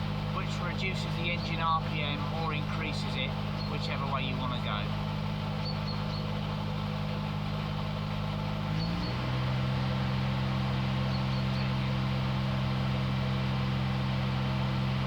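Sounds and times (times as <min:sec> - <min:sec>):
refrigeration unit engine running: 0:00.0 - 0:15.0.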